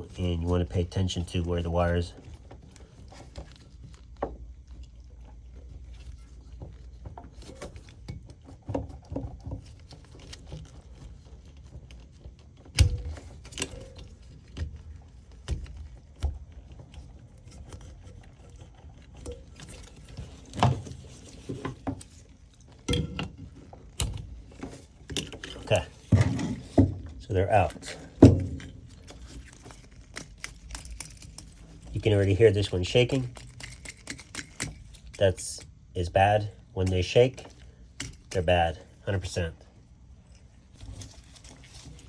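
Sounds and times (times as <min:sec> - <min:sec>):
clicks and rattles of plastic and wire: 0:00.0 - 0:42.0.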